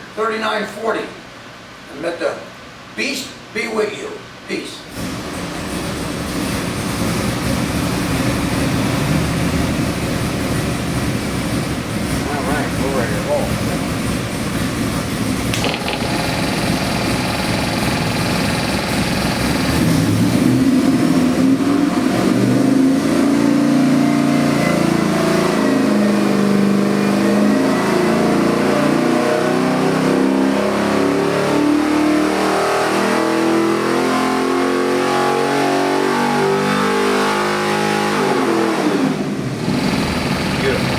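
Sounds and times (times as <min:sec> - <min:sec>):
engine revving: 0:06.9 - 0:40.9.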